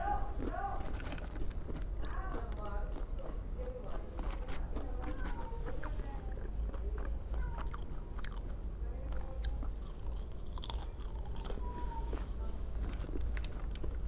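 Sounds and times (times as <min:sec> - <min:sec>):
chewing and crunching food: 0:00.0 - 0:14.0.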